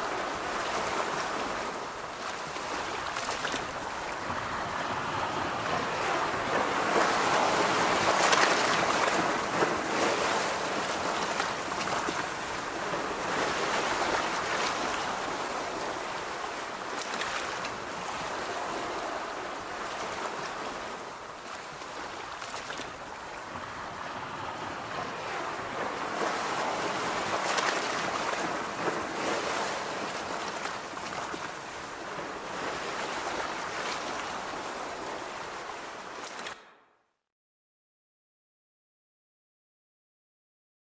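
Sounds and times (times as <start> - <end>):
sea waves breaking: 0.0 - 36.8.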